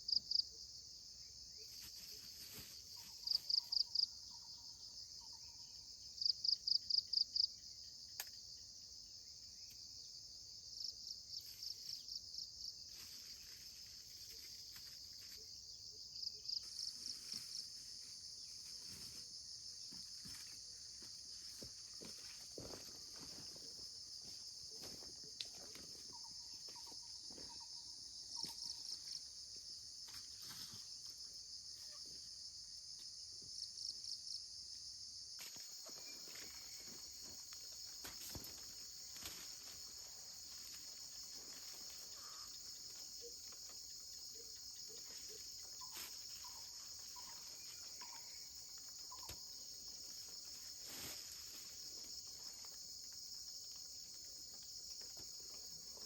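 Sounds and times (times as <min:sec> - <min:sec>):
insects chorus: 0:00.0 - 0:56.0
pulsing insect trills: 0:00.0 - 0:56.0.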